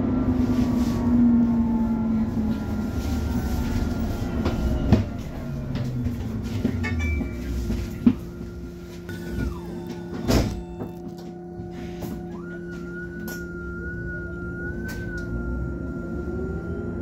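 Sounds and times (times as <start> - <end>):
bus engine hum and whine: 0.0 - 17.0.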